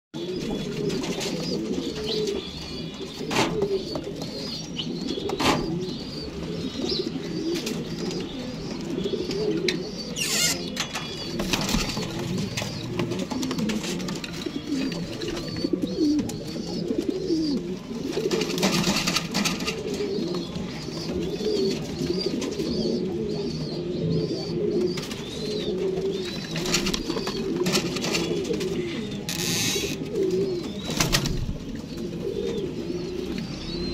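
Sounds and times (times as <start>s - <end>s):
pigeons cooing: 0.2s - 33.9s.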